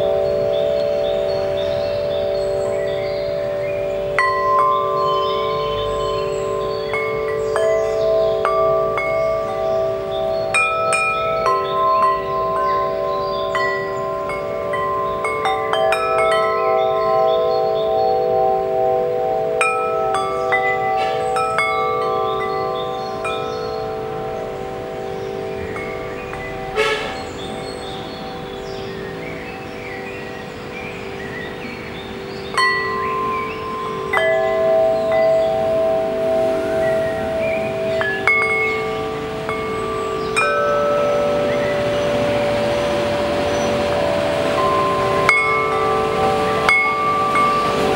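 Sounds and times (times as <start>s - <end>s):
metal wind chime ringing: 0.0s - 47.9s.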